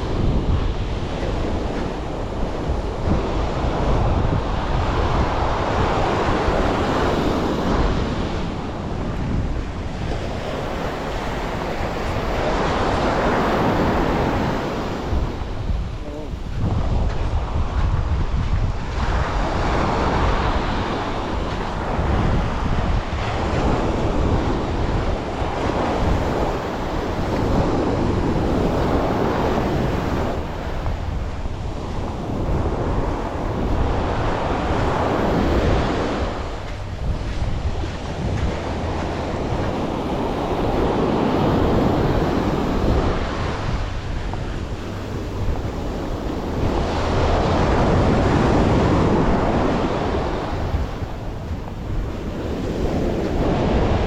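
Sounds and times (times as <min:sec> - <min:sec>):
sea waves washing onto beach: 0:00.0 - 0:54.0
wind rumbling on microphone: 0:00.0 - 0:54.0.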